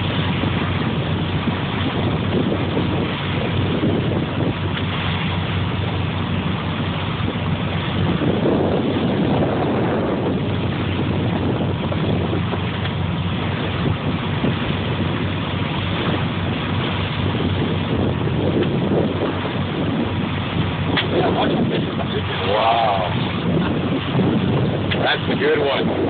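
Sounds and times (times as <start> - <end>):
boat engine droning: 0.0 - 26.0
sea wash: 0.0 - 26.0
wind buffeting microphone: 0.0 - 26.0.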